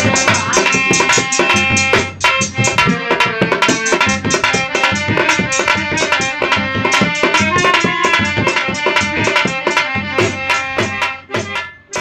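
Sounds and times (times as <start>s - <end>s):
hand drum strokes: 0.0s - 12.0s
harmonium chords: 0.0s - 12.0s.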